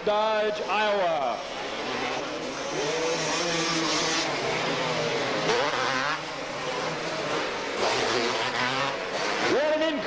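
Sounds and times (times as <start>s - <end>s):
atv engines revving: 0.0s - 10.0s.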